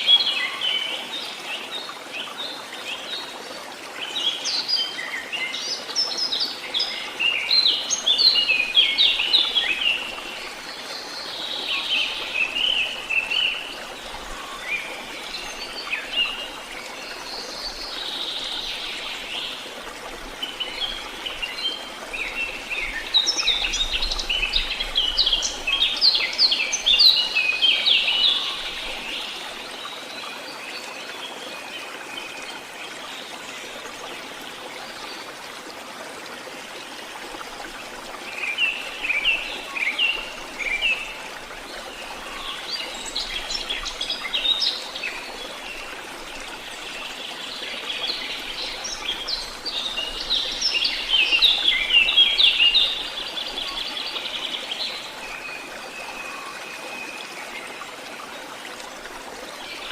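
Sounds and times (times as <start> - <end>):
songbirds chirping: 0.0 - 35.6, 36.5 - 59.9
running water hiss: 0.0 - 59.9.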